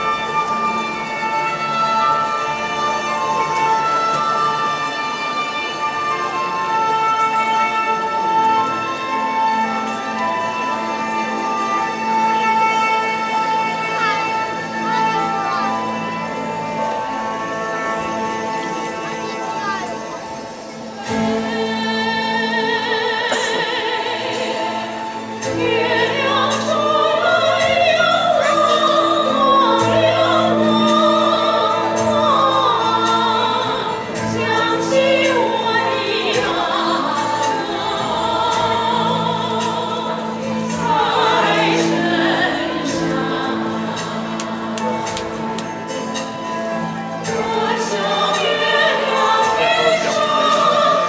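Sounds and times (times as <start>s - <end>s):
classical singing with vibrato: 0.0s - 51.0s
sustained accompanying notes: 0.0s - 51.0s.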